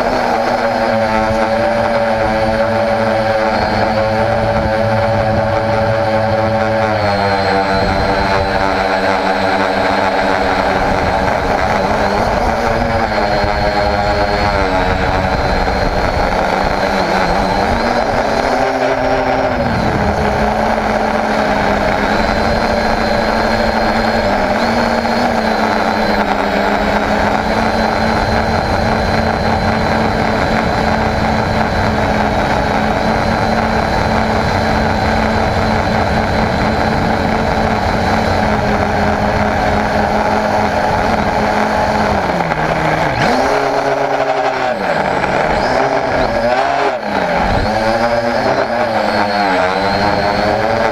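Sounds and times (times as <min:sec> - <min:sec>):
quadcopter motors and propellers: 0:00.0 - 0:50.9.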